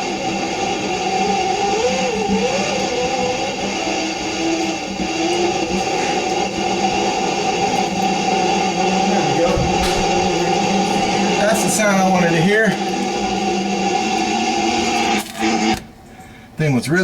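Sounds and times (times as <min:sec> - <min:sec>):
shop vacuum running: 0:00.0 - 0:16.0.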